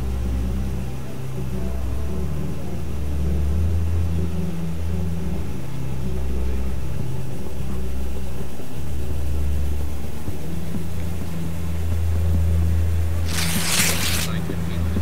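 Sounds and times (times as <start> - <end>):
low droning soundtrack: 0.0 - 15.0.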